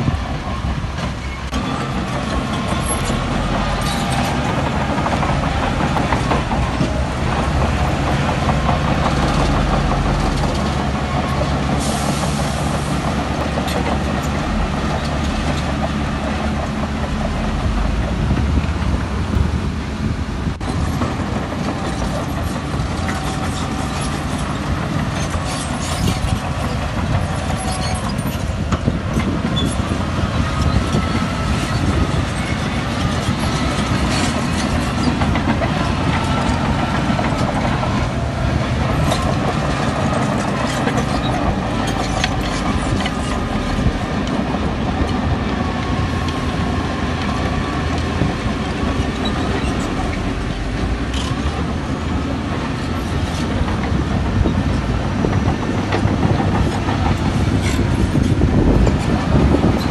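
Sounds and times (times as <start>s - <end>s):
crawler tracks clanking: 0.0s - 59.9s
diesel engine running: 0.0s - 59.9s.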